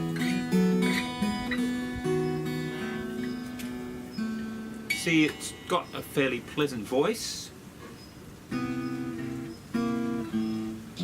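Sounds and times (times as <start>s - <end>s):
acoustic guitar chords strummed: 0.0s - 6.8s, 8.4s - 11.0s.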